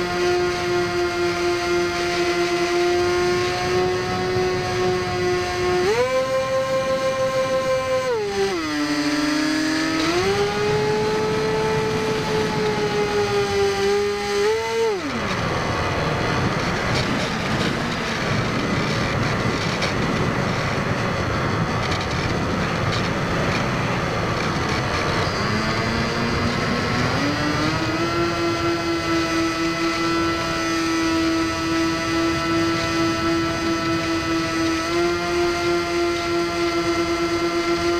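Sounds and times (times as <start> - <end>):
electric motor and propeller whine: 0.0 - 37.9.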